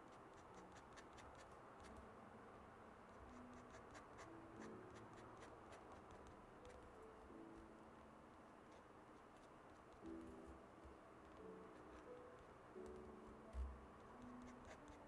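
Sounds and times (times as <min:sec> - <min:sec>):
pen nib scratching on paper: 0:00.0 - 0:02.0, 0:03.1 - 0:07.0, 0:08.7 - 0:15.0.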